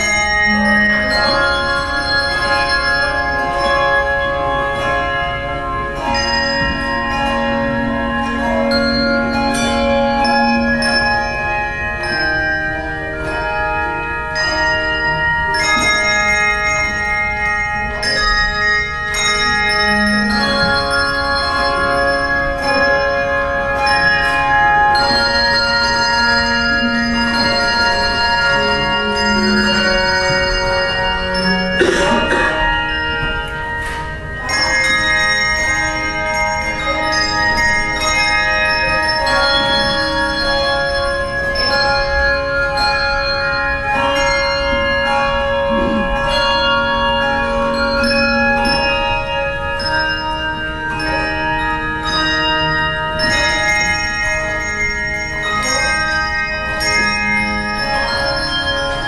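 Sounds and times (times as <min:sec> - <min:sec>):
handbell choir playing chords: 0:00.0 - 0:59.0.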